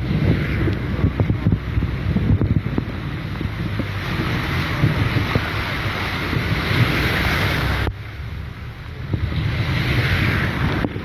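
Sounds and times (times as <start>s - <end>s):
gusts buffeting microphone: 0.0s - 11.0s
heavy rain: 0.0s - 11.0s
hurricane wind: 0.0s - 11.0s.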